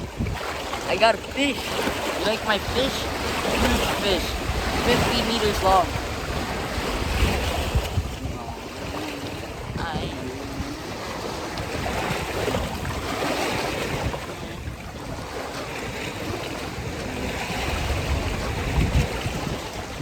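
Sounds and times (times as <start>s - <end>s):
wind gusting over microphone: 0.0s - 20.0s.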